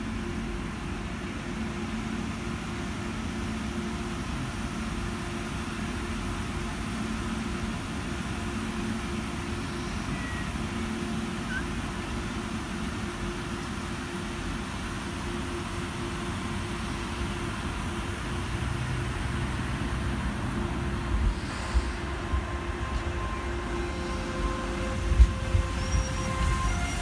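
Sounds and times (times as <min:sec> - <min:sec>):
train rolling past rumbling: 0:00.0 - 0:27.0.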